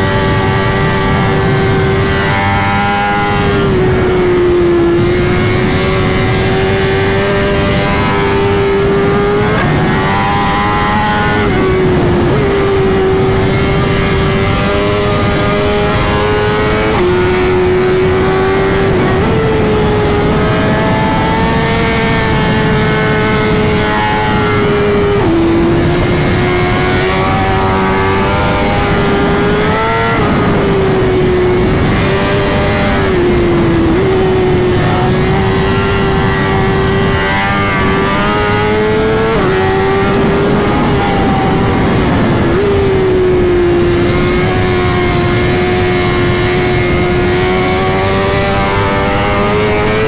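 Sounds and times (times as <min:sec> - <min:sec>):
motorcycle engine at high revs: 0:00.0 - 0:50.0
wind rush: 0:00.0 - 0:50.0.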